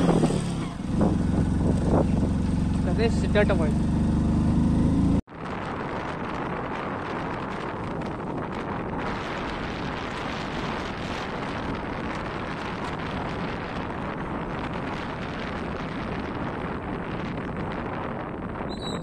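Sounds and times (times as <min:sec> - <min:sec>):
motorbike road noise: 0:00.0 - 0:19.0
wind buffeting microphone: 0:00.0 - 0:19.0
wind rushing: 0:00.0 - 0:19.0.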